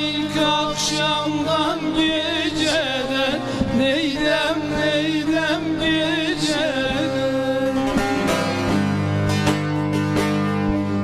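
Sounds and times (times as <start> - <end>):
plucked saz folk music: 0.0 - 11.0.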